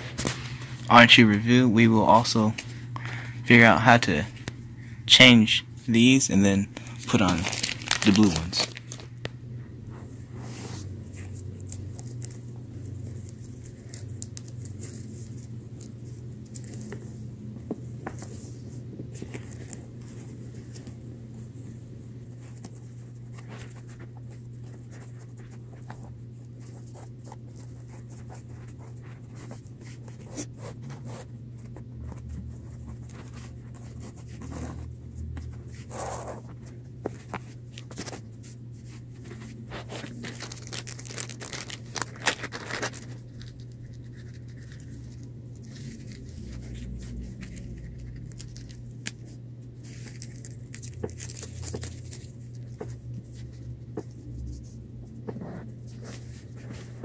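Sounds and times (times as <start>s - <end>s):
steady low hum: 0.0s - 57.0s
shoelace rustling through sneaker: 7.0s - 9.2s, 9.9s - 57.0s.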